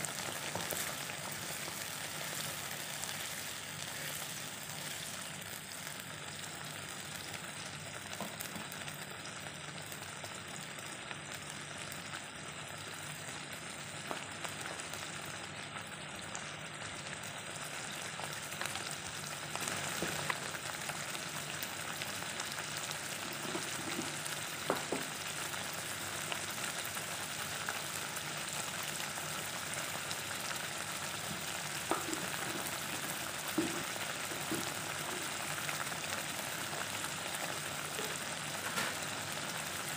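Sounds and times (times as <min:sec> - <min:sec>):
sauce bubbling and sizzling in a wok: 0:00.0 - 0:39.9.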